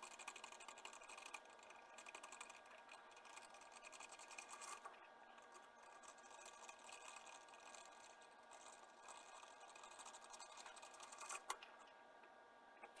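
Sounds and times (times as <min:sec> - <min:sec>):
small machine tool whirring: 0:00.0 - 0:11.6.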